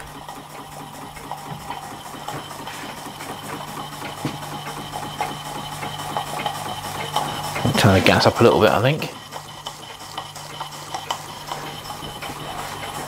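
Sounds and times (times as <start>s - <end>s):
model steam engine running: 0.0s - 13.0s
steady low hum: 0.0s - 13.0s.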